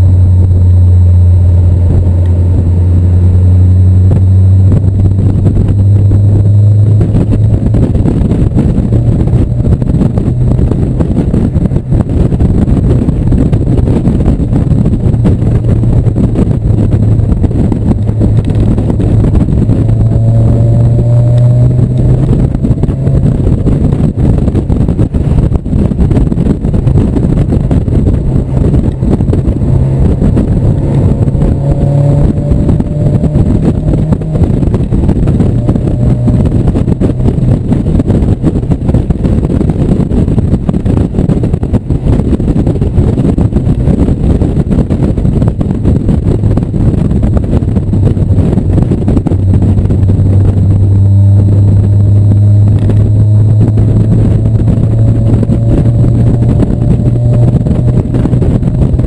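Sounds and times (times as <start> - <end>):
car engine running hard: 0.0 - 59.0
wind and road noise: 0.0 - 59.0.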